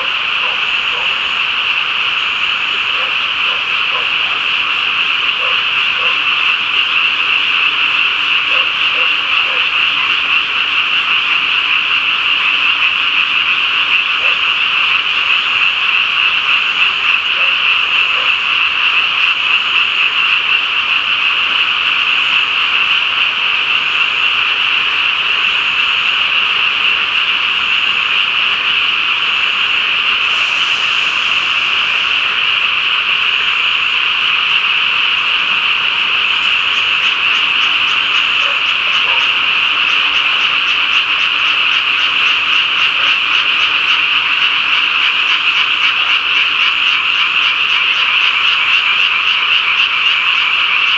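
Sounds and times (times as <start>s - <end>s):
chorus of frogs calling: 0.0s - 50.9s.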